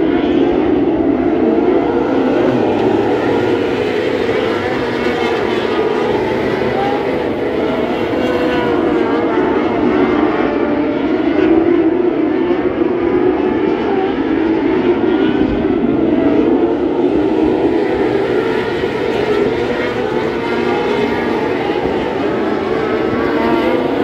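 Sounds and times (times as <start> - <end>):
racing car engines at high revs: 0.0 - 24.0.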